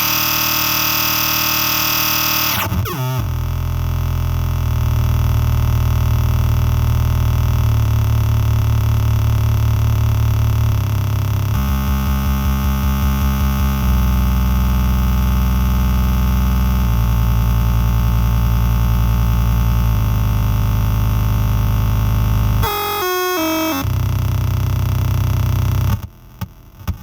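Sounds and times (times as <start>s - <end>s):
buzzing low synth drone: 0.0s - 26.0s.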